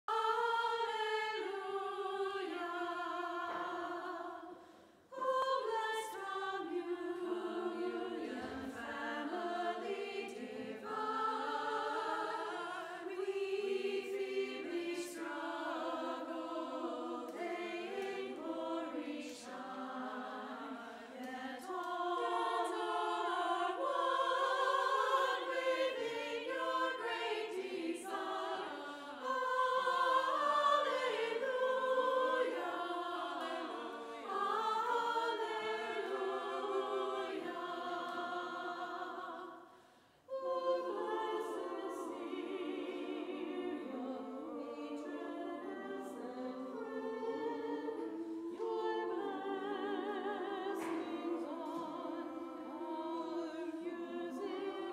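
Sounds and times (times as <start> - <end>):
women's choir singing: 0.0 - 54.9.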